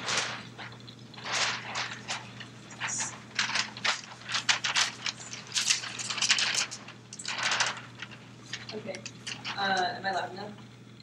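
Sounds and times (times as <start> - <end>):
paper rustling and crackling: 0.0 - 10.0
faint electrical hum: 0.0 - 11.0.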